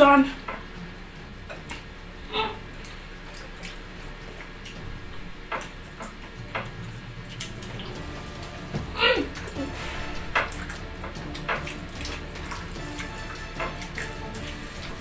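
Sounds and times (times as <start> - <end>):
low steady hum: 0.0 - 15.0
wet chewing and lip-smacking: 2.7 - 15.0.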